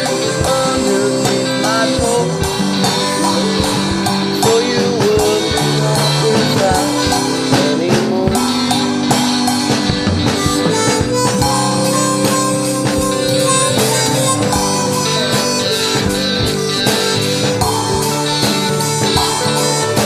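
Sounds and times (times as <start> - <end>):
drum kit beat: 0.0 - 20.0
guitars: 0.0 - 20.0
harmonica playing held notes: 0.0 - 20.0.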